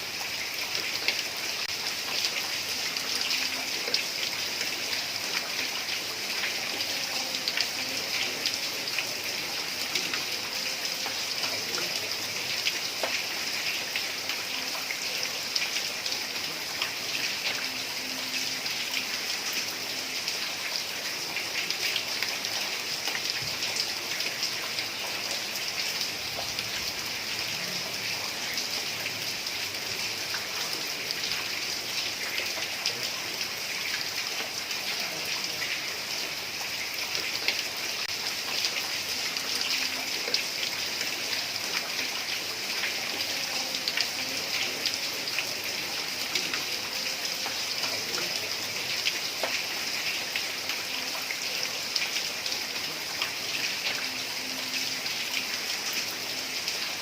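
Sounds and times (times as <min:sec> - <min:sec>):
heavy rain on a tiled roof: 0:00.0 - 0:57.0.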